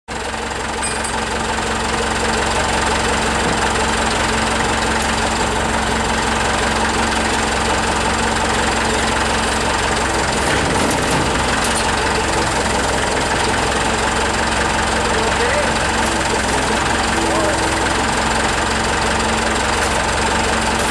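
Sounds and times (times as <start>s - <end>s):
forklift engine idling: 0.1s - 20.9s.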